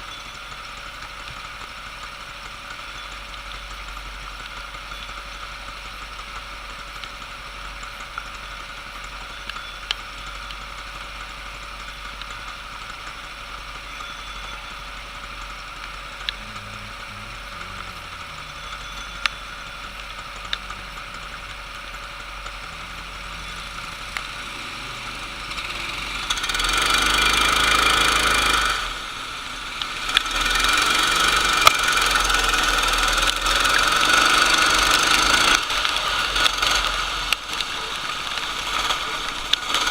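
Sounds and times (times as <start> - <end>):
racing kart engines running: 0.0 - 39.9
sharp clicks: 2.7 - 39.9.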